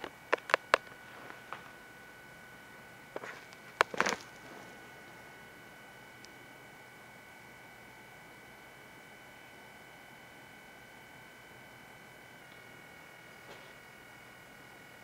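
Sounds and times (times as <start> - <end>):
faint high-pitched electronic whine: 0.0 - 15.0.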